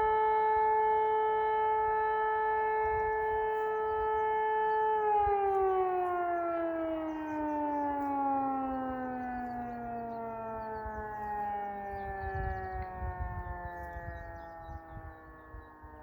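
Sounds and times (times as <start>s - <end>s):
siren winding down: 0.0s - 16.0s.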